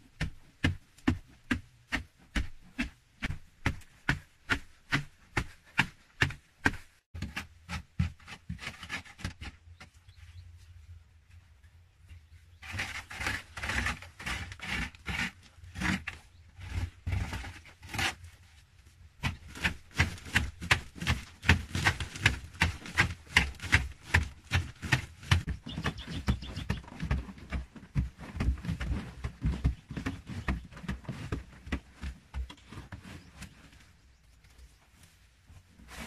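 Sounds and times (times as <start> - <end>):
digging tool chopping earth: 0.1 - 9.6, 12.6 - 18.2, 19.2 - 33.6.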